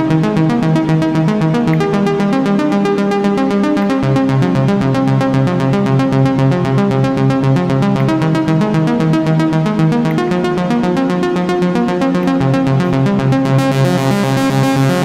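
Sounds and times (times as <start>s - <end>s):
synthesizer arpeggio: 0.0s - 15.0s.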